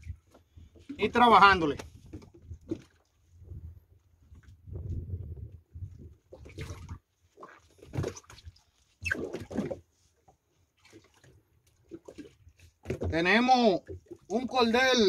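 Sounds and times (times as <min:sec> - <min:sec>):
water splashing against boat hull: 0:00.0 - 0:05.0, 0:05.8 - 0:15.0.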